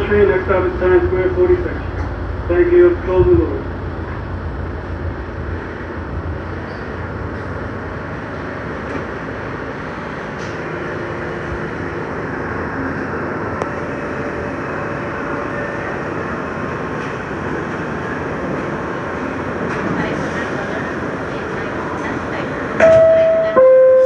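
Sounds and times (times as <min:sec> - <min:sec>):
subway wheels rumbling on rail: 0:00.0 - 0:24.0.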